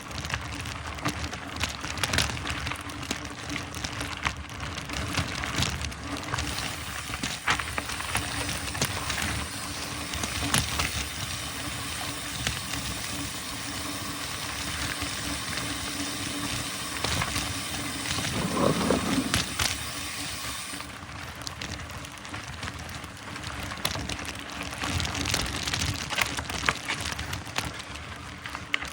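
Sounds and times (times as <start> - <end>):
bike knocking and rattling: 0.0 - 28.9
bike tyres rushing on dirt: 0.0 - 28.9.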